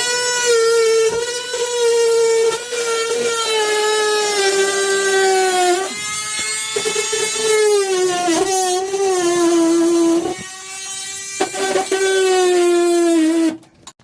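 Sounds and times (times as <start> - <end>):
power tool motor whining: 0.0 - 13.7.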